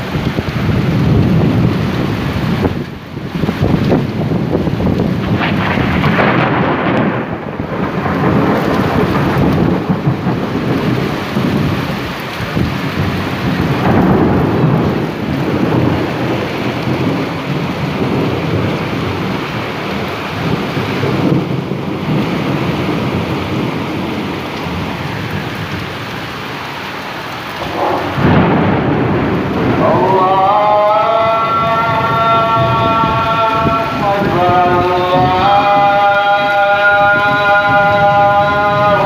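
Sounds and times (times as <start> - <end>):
rumbling noise: 0.0 - 26.3, 27.5 - 39.0
heavy rain pouring: 0.0 - 39.0.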